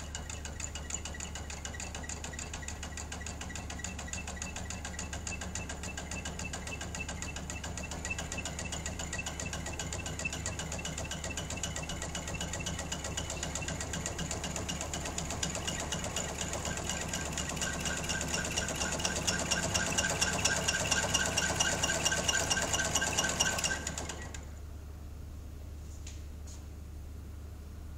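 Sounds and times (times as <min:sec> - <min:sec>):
mechanical rattle with a whine: 0:00.0 - 0:24.6.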